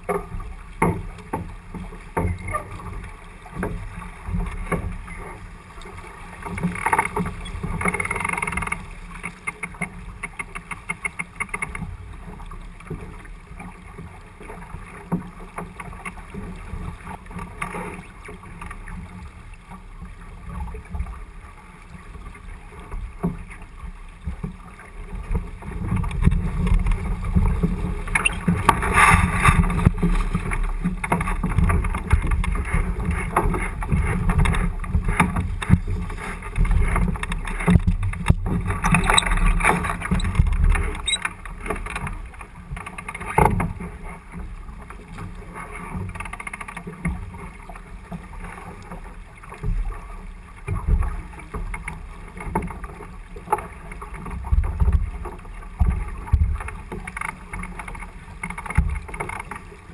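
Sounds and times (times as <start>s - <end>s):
water rushing past boat hull: 0.0s - 59.9s.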